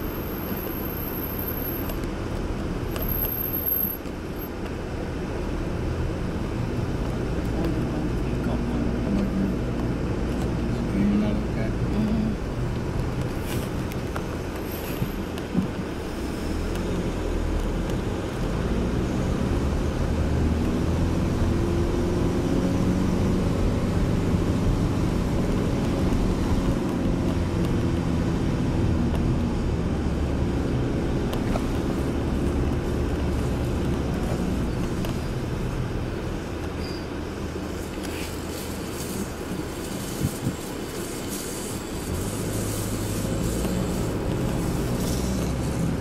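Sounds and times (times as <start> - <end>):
car engine from inside cabin: 0.0 - 46.0
road noise: 0.0 - 46.0.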